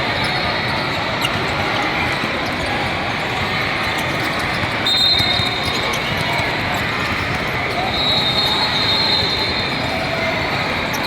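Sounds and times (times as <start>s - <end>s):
court and crowd noise: 0.0s - 11.0s.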